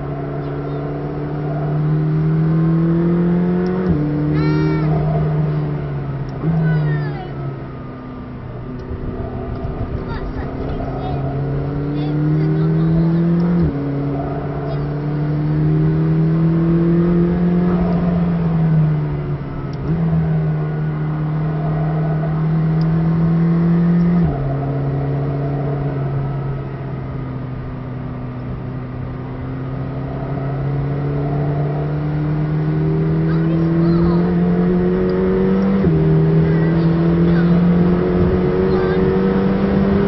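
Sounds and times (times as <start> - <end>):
car engine accelerating through gears: 0.0 - 40.0.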